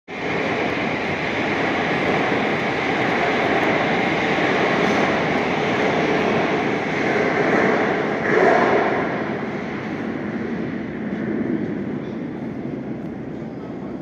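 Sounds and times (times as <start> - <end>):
metro train running: 0.1 - 14.0.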